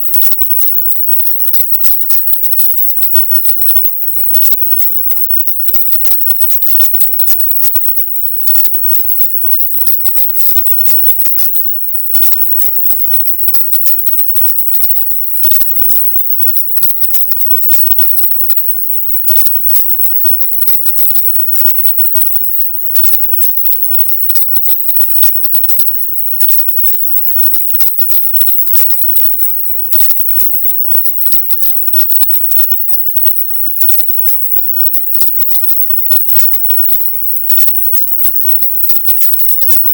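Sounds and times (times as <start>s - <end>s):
harsh crackling static: 0.0s - 39.9s
high-pitched hiss: 0.0s - 39.9s.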